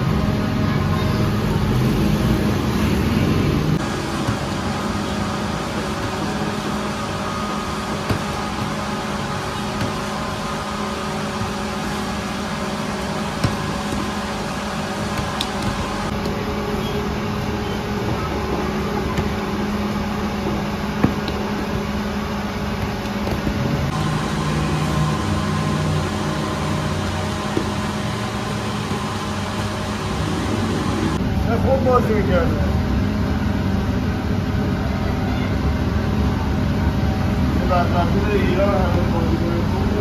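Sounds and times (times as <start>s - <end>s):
machinery hum: 0.0s - 40.0s.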